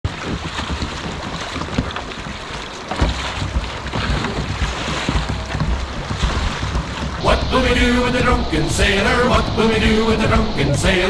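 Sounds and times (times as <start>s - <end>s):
river water over stones: 0.0s - 11.0s.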